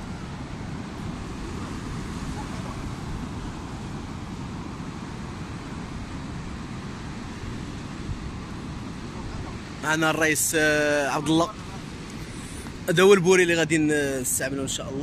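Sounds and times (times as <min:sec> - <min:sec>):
wind buffeting microphone: 0:00.0 - 0:12.9
surf breaking on breakwater: 0:00.0 - 0:14.4.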